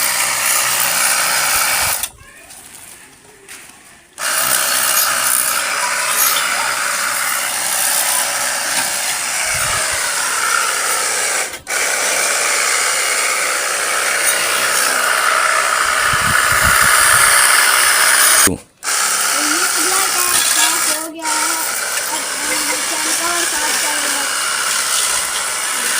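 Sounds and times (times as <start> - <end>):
pressure washer spraying water: 0.0 - 2.1, 4.2 - 25.9.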